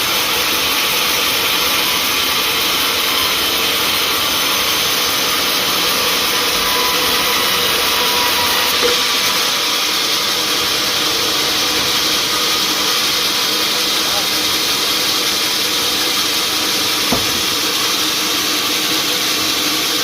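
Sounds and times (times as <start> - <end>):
sawmill machinery running: 0.0 - 20.0.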